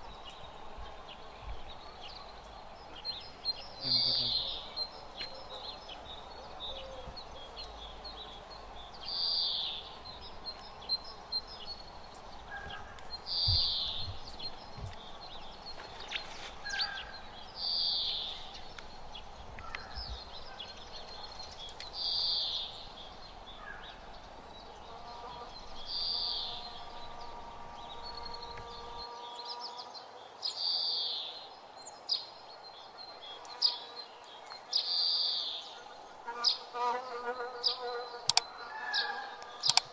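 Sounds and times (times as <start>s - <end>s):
outdoor background noise: 0.0s - 39.9s.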